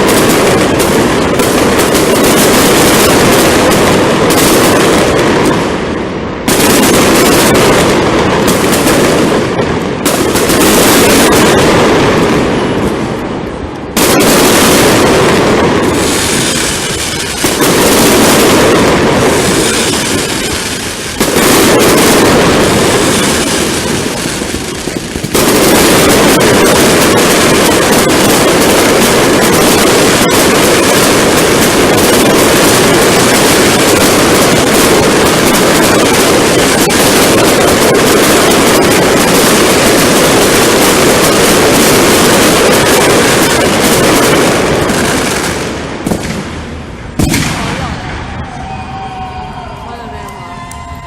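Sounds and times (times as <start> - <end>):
fireworks crackling bangs: 0.0 - 49.4.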